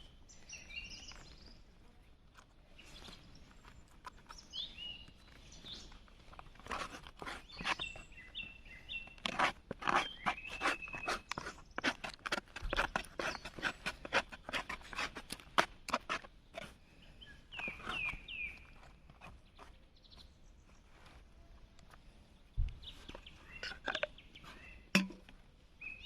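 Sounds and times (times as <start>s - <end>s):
small bird chirping: 0.0s - 1.7s, 2.7s - 15.4s, 17.0s - 21.8s, 22.6s - 25.0s, 25.8s - 26.0s.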